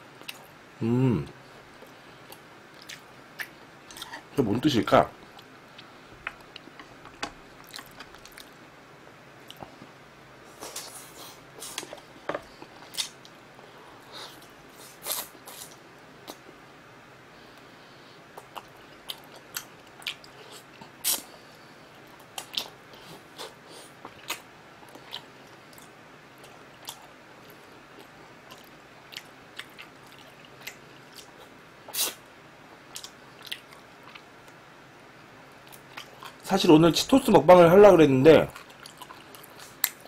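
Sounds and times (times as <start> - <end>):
man chewing meat: 0.1 - 0.6, 1.6 - 4.3, 5.2 - 8.6, 9.4 - 16.6, 17.5 - 34.7, 35.4 - 36.4, 38.5 - 40.0.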